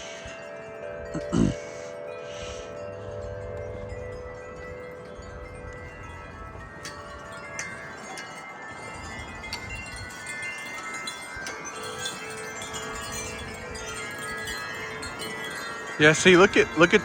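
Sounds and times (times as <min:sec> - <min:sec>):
low wind rumble: 0:00.0 - 0:17.0
wind chimes ringing: 0:00.0 - 0:17.0.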